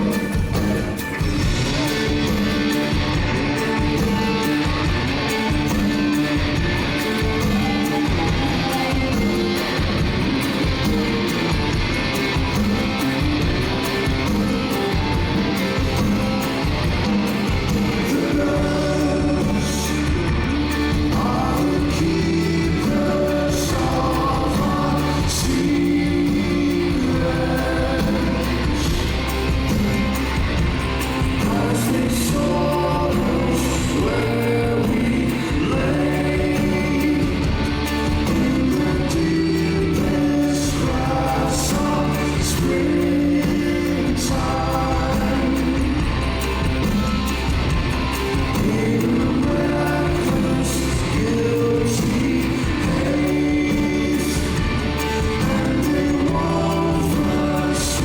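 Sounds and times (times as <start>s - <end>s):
deep bass line: 0.0s - 58.0s
live rock band: 0.0s - 58.0s
man singing lead vocal: 0.0s - 58.0s.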